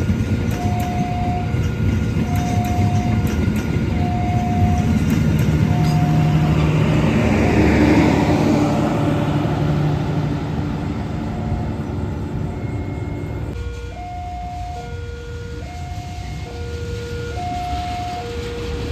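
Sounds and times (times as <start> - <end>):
train rumble and rail noise: 0.0 - 18.9.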